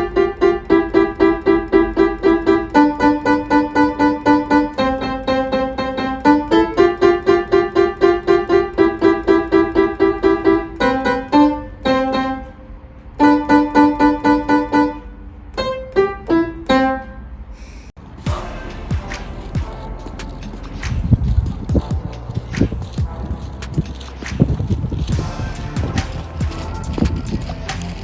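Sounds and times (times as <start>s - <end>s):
piano fast repeated notes: 0.0s - 12.6s, 13.2s - 17.0s, 18.3s - 28.0s.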